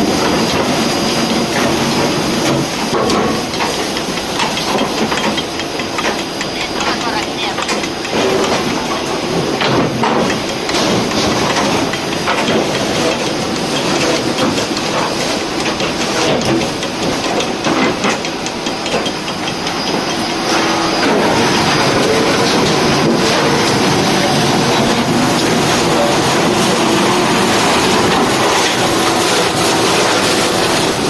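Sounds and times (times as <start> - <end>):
sawmill machinery running: 0.0 - 31.0.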